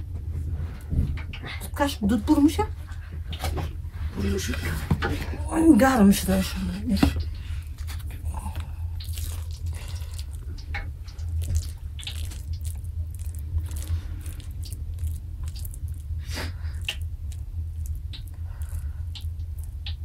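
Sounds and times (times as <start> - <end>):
steady low rumble: 0.0 - 20.0
soft squishing of filling: 1.8 - 20.0.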